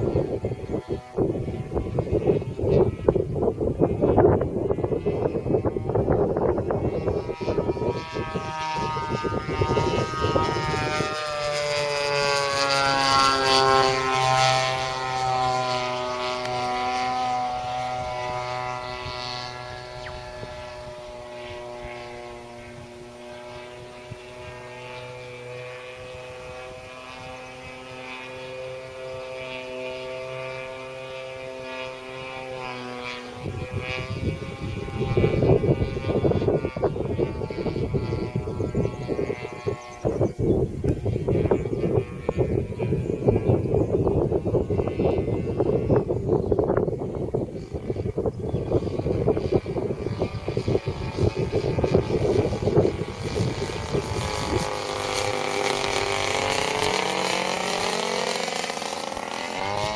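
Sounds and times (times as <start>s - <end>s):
model airplane motor droning: 0.0s - 59.9s
wind buffeting microphone: 0.0s - 59.9s.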